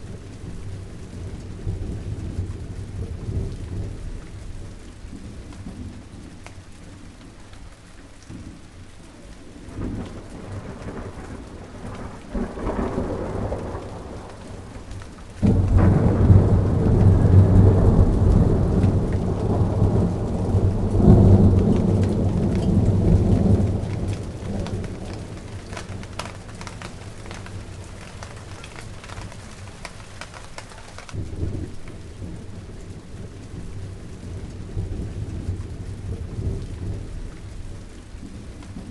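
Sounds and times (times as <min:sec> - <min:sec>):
steady rain falling: 0:00.0 - 0:38.9
thunder rumbling: 0:00.0 - 0:38.9.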